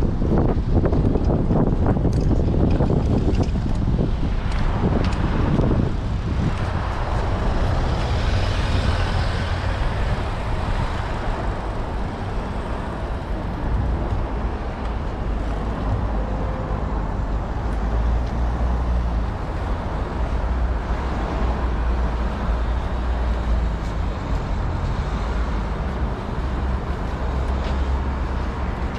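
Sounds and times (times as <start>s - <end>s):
heavy low rumble: 0.0s - 28.9s
wind rushing over microphone: 0.0s - 28.9s.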